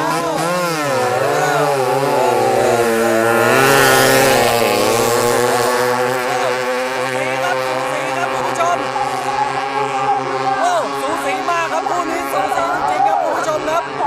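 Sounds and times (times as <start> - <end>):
racing boat engines revving: 0.0 - 14.0.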